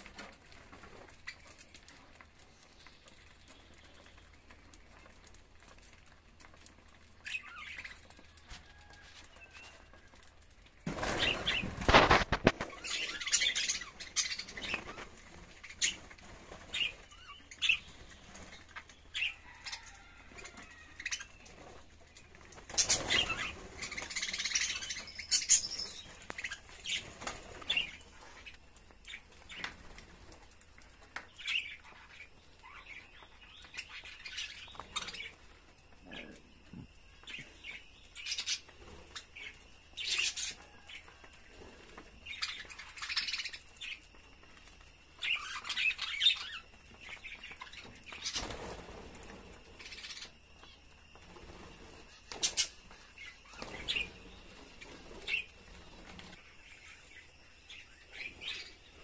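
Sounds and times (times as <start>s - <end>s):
wings flapping: 0.0s - 31.8s, 38.3s - 50.4s, 51.1s - 56.5s.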